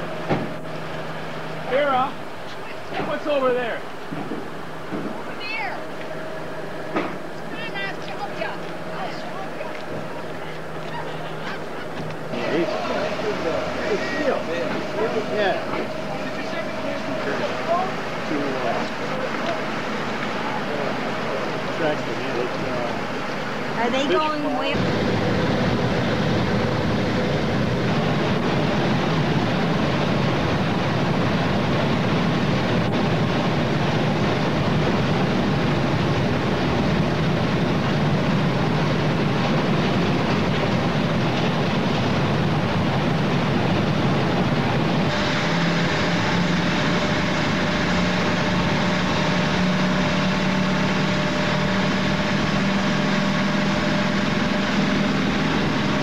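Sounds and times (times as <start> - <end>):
ship engine droning: 0.0 - 56.0.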